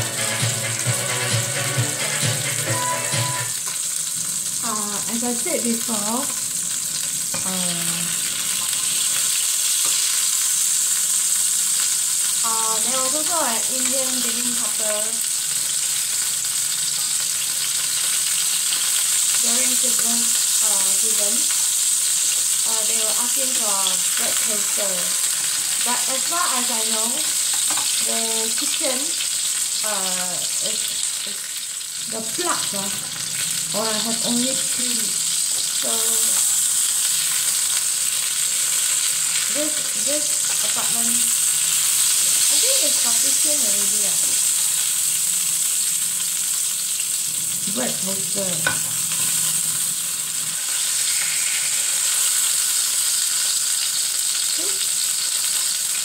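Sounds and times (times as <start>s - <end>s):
patty sizzling in oil: 0.0s - 56.0s.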